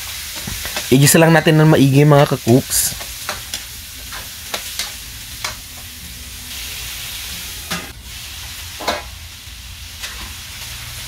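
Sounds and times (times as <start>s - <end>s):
ribs sizzling in hot oil: 0.0s - 11.0s.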